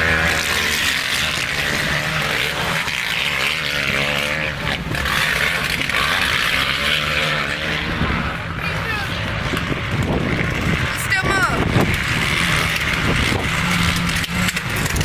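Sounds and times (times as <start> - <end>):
motocross bike engines revving: 0.0 - 15.0
steady rushing noise: 0.0 - 15.0.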